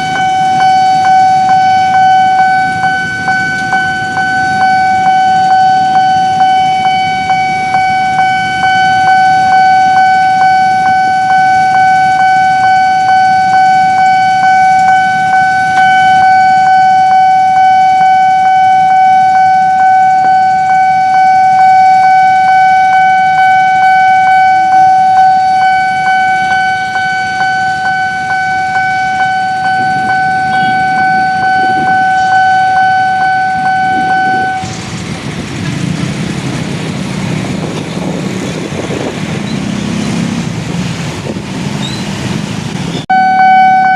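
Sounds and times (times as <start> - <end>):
level crossing warning alarm: 0.0 - 40.9, 42.8 - 43.9.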